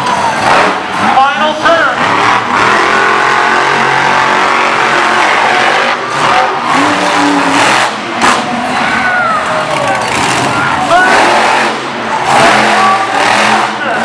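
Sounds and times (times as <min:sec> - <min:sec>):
truck engines revving loudly: 0:00.0 - 0:14.0.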